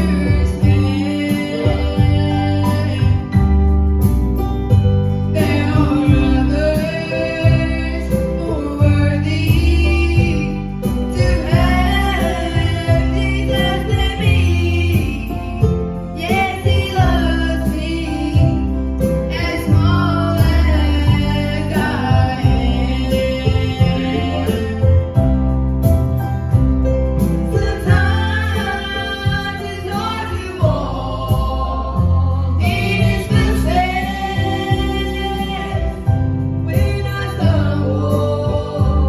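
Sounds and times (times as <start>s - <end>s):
singers singing gospel: 0.0s - 4.2s, 5.0s - 25.4s, 27.2s - 39.0s
instrumental accompaniment: 0.0s - 39.0s.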